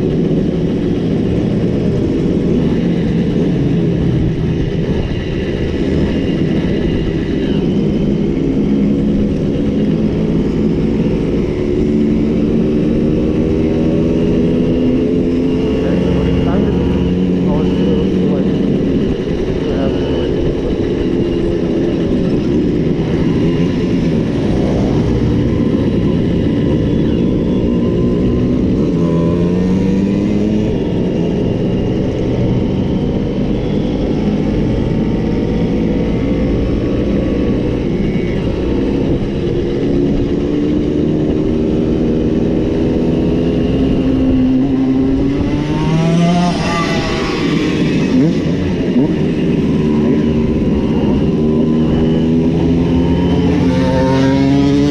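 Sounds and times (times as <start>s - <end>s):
engine revving: 0.0s - 54.9s
moped engines: 0.0s - 54.9s.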